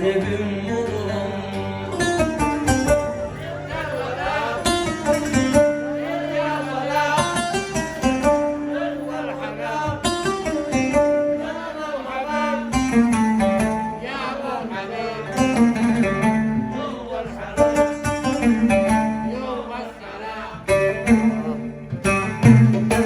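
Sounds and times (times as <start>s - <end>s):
plucked string instrument melody: 0.0s - 23.0s.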